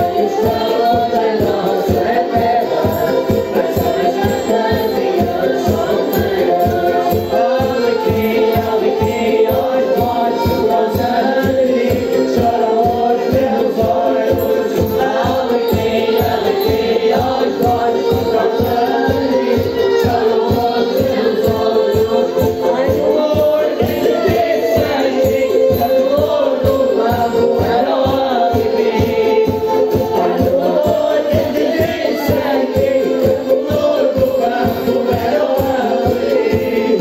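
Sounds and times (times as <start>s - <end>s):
folk dance music: 0.0s - 37.0s
group singing over instruments: 0.0s - 37.0s.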